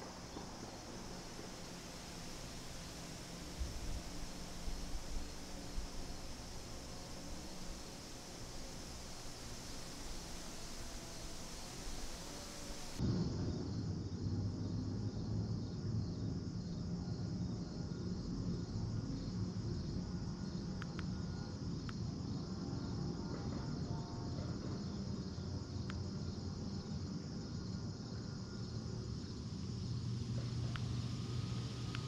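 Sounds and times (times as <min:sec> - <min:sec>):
crickets and insects chirring: 0:00.0 - 0:32.0.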